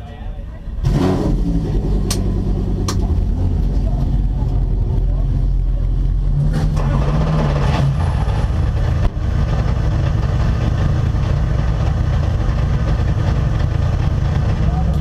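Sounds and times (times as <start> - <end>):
race car engine idling: 0.0 - 15.0.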